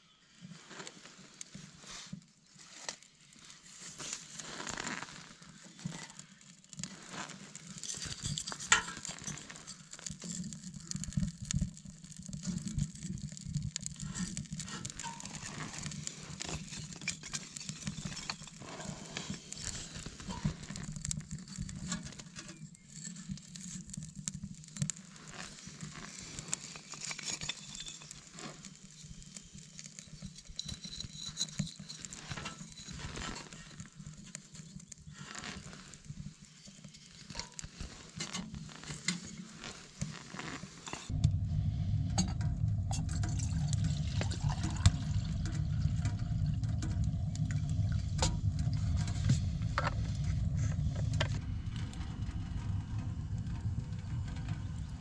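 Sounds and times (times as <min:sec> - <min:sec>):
fire crackling in stove: 0:00.3 - 0:55.0.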